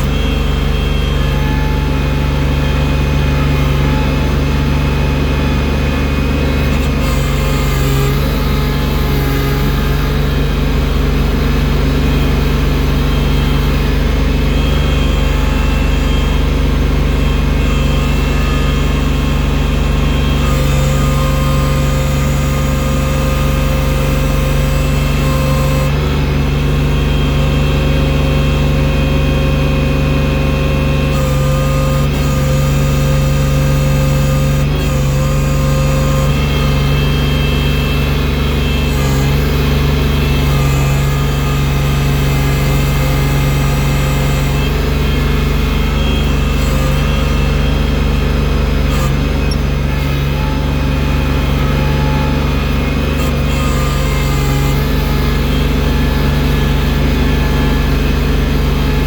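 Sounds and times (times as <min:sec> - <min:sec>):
snow clearing machine engine: 0:00.0 - 0:59.0.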